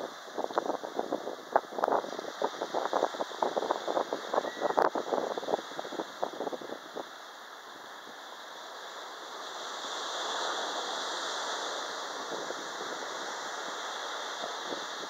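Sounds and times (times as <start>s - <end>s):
surf washing on beach: 0.0s - 15.0s.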